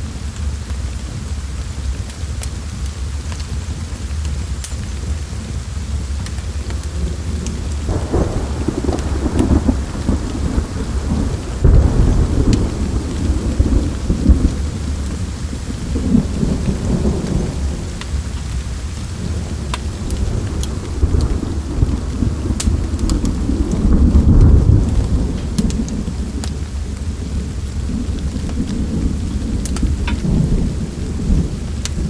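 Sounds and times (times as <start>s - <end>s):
steady rain: 0.0s - 32.0s
sharp crackles: 2.3s - 32.0s
rolling thunder rumble: 5.5s - 32.0s.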